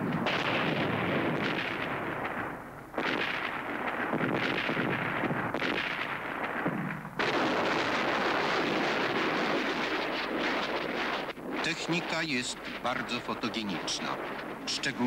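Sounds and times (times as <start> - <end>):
explosions rumbling: 0.0 - 15.0
rockets launching in a salvo: 0.0 - 15.0.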